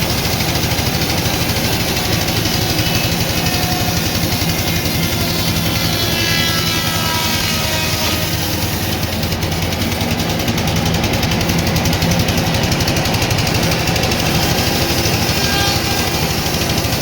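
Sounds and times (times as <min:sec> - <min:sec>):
fast even rattle: 0:00.0 - 0:17.0
high machine whine: 0:00.0 - 0:17.0
sawmill machinery humming: 0:00.0 - 0:17.0.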